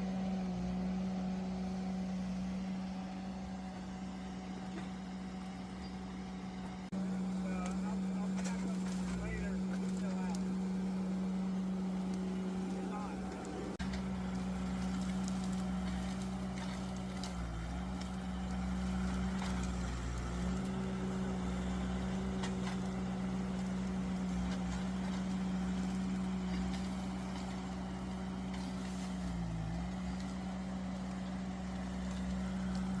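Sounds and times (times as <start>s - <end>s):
skid steer engine running: 0.0s - 33.0s.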